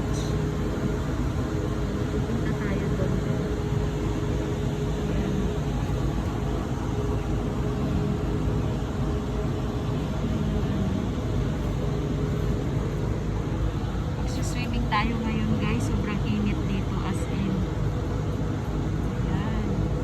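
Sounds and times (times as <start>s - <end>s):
faint constant hum: 0.0s - 20.0s.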